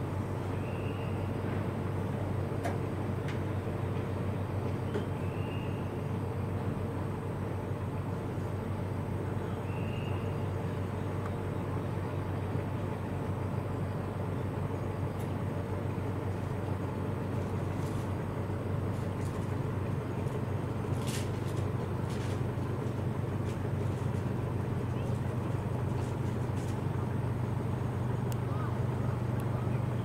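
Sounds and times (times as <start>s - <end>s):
low hum and hiss: 0.0s - 30.0s.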